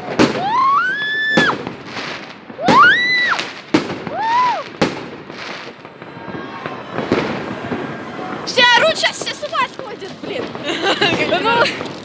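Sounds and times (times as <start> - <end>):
fireworks bangs: 0.0 - 12.0
rising firework whistles: 0.0 - 12.0.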